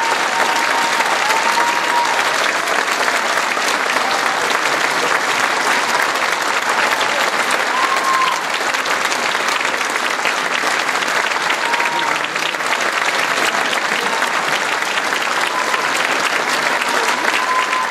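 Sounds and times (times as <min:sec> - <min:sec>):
large audience applauding: 0:00.0 - 0:17.9.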